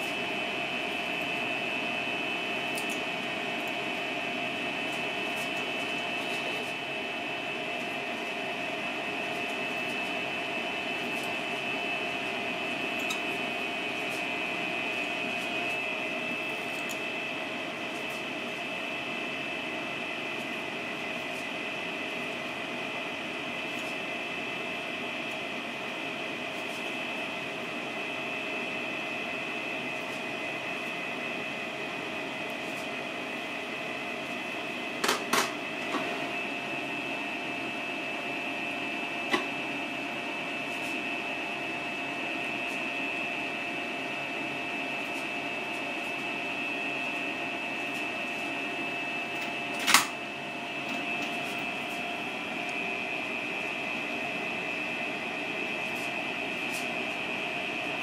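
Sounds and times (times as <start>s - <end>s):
machine humming: 0.0s - 58.0s.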